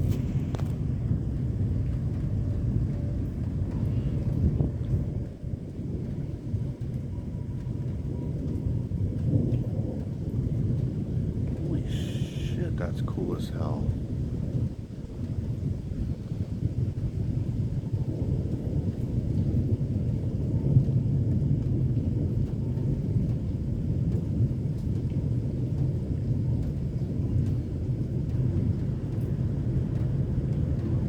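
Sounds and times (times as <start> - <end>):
thunder rumbling: 0.0 - 31.0.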